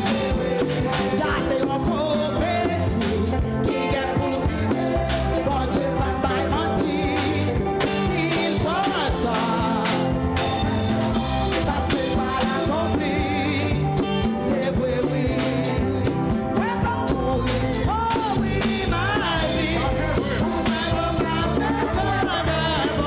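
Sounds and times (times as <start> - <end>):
singing: 0.0 - 23.0
steady drum beat: 0.0 - 23.0
worship band playing: 0.0 - 23.0.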